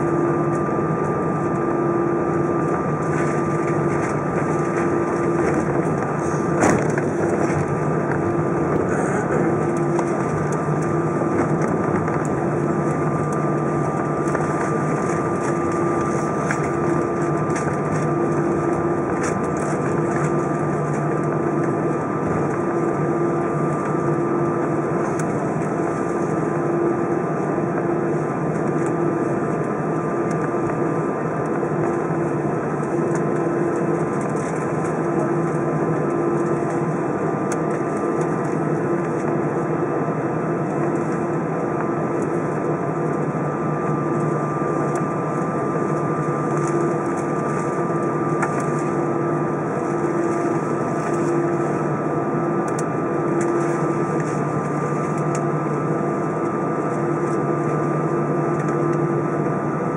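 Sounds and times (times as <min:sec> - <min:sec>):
jet engines droning in cabin: 0:00.0 - 0:59.9
thin engine whine: 0:00.0 - 0:59.9
wavering low hum: 0:00.0 - 0:59.9.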